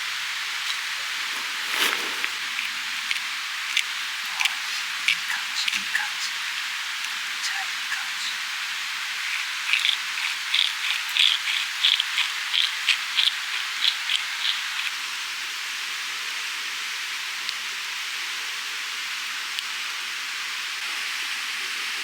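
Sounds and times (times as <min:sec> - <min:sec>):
chicken skewers sizzling on grill: 0:00.0 - 0:21.0.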